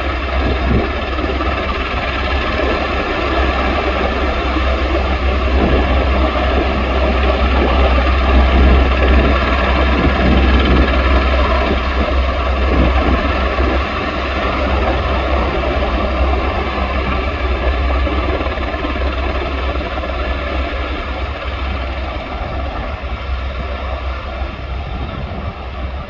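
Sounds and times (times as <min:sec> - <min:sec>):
helicopter rotor rumble: 0:00.0 - 0:26.0
helicopter turbine whine: 0:00.0 - 0:26.0.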